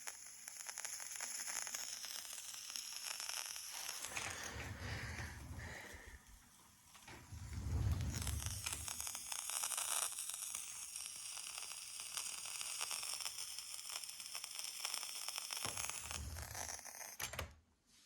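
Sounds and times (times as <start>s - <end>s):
cassette deck crackling static: 0.0s - 17.5s.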